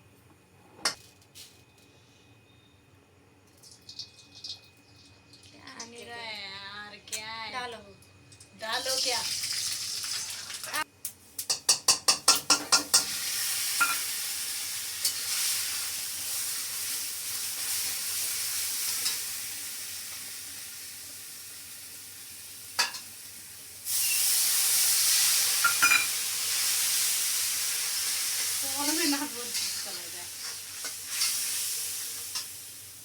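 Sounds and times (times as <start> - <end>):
food sizzling in hot oil: 3.4 - 5.8, 8.2 - 33.0.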